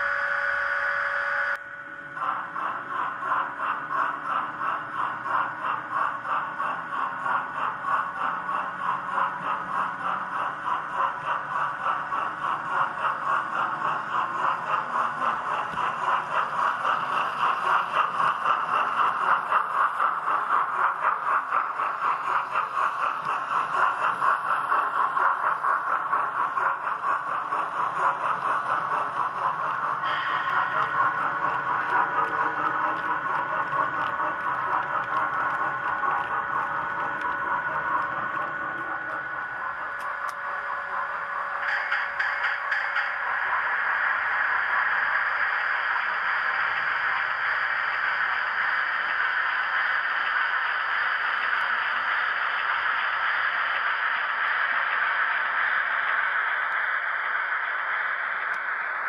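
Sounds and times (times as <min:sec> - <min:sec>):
model train wheels clattering: 0:02.1 - 0:59.0.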